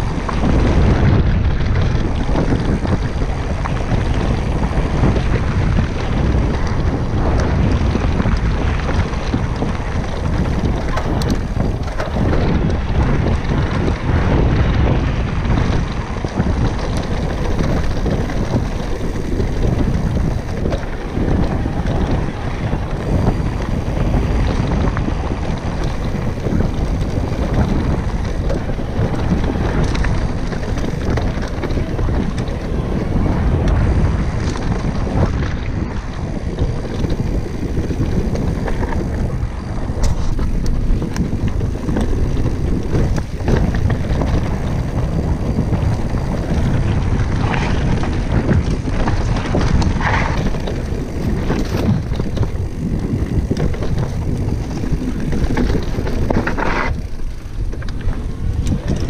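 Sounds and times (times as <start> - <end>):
bike knocks and rattles: 0.0 - 59.0
tyres on dirt trail: 0.0 - 59.0
wind rushing over microphone: 0.0 - 59.0.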